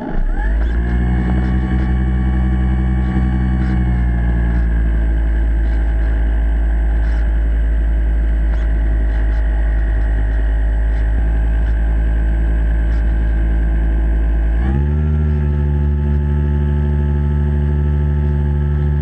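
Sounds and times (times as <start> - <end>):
model boat motor underwater: 0.0 - 19.0.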